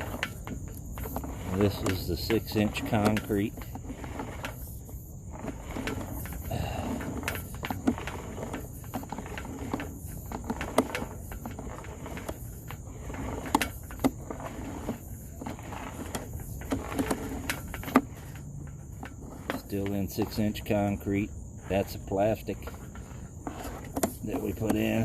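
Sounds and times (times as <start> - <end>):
sharp clicks and knocks: 0.0 - 4.8, 5.4 - 21.2
crickets chirring: 0.0 - 25.0.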